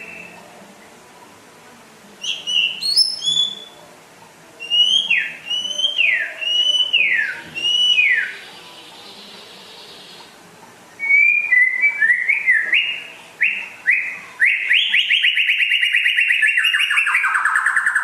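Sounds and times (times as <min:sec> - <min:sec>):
songbird singing whistles: 0:00.0 - 0:00.4, 0:02.2 - 0:03.8, 0:04.6 - 0:10.3, 0:11.0 - 0:18.0.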